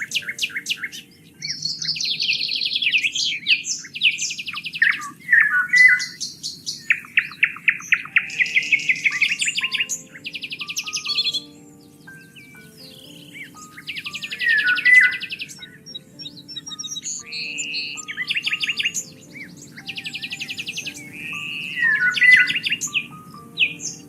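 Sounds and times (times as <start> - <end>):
soft background music: 0.0 - 24.0
songbirds chirping and singing: 0.0 - 24.0.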